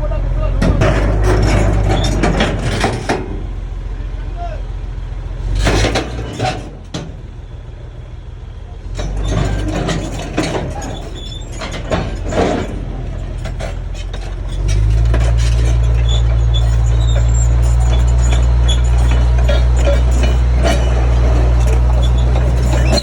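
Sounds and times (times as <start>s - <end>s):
heavy diesel engine running: 0.0s - 23.0s
metallic knocks and clanks: 0.5s - 3.5s, 5.6s - 7.2s, 9.0s - 23.0s.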